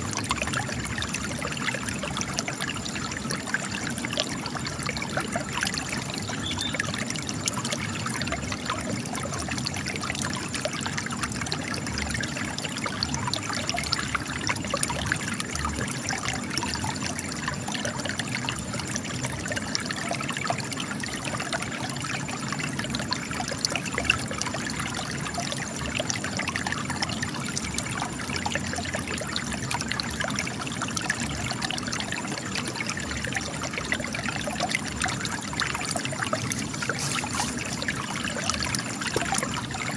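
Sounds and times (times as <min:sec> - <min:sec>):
spring water trickling over stone: 0:00.0 - 0:39.9.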